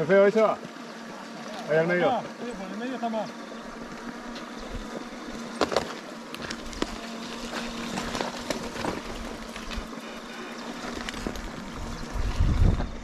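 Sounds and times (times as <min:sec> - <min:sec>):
bikes knocking and rattling: 0:00.0 - 0:13.0
steady creek hiss: 0:00.0 - 0:13.0.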